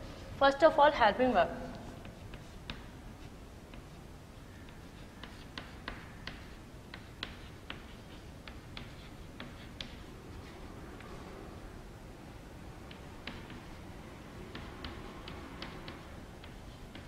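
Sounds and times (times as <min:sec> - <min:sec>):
chalk tapping on chalkboard: 0:01.7 - 0:11.3, 0:12.8 - 0:17.0.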